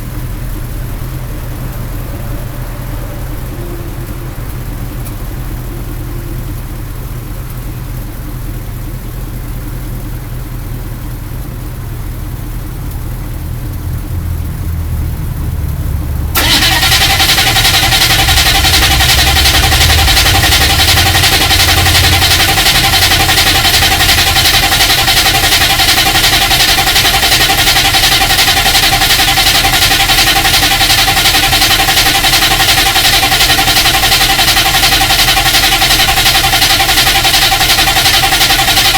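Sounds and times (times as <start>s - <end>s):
diesel engine rumble: 0.0s - 38.9s
second engine idling: 0.0s - 38.9s.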